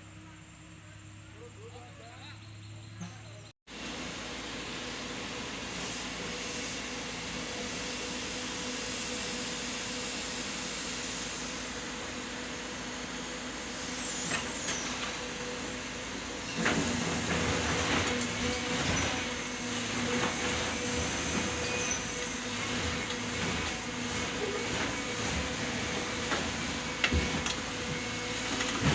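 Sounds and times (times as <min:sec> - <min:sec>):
heavy diesel machinery humming: 0:00.0 - 0:28.9.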